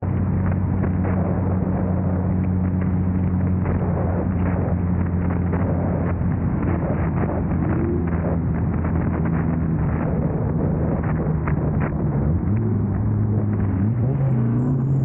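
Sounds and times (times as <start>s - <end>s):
car engine running: 0.0s - 15.0s
wind rush: 0.0s - 15.0s
light crackles: 0.1s - 13.8s.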